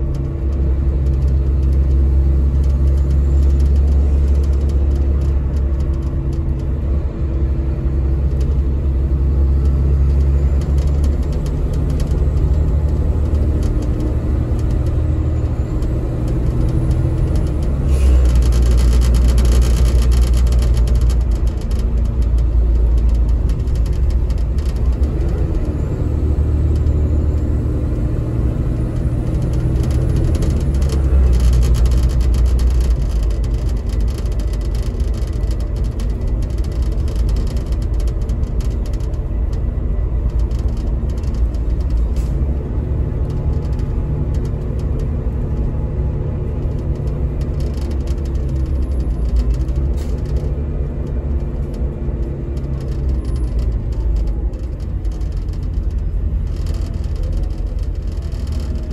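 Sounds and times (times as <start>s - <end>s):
bus engine droning: 0.0s - 58.9s.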